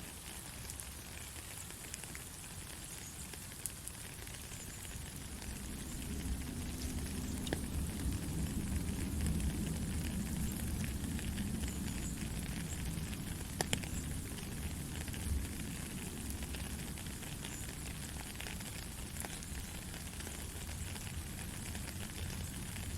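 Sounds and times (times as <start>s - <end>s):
rain hissing and pattering: 0.0s - 22.9s.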